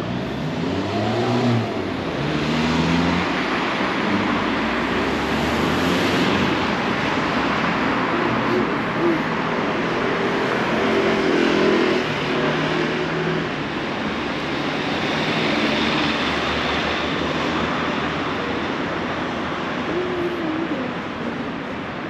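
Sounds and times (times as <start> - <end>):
road noise hum: 0.0 - 22.0.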